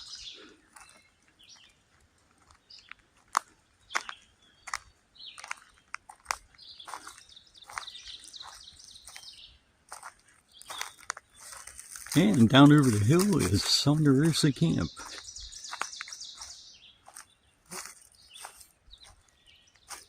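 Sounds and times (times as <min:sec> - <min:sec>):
bird warbling song: 0:00.0 - 0:01.8, 0:03.6 - 0:20.0
wild birds chirping: 0:00.0 - 0:20.0.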